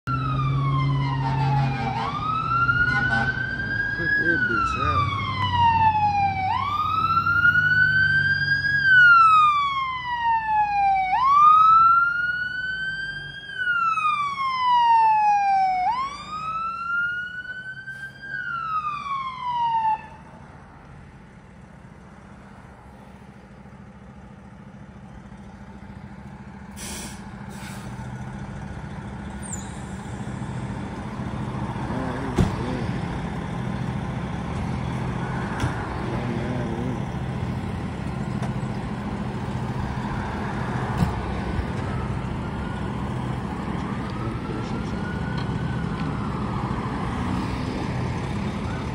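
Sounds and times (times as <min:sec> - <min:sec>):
fire engine siren wailing: 0:00.0 - 0:21.7, 0:25.4 - 0:48.9
truck engine rumbling: 0:00.0 - 0:48.9.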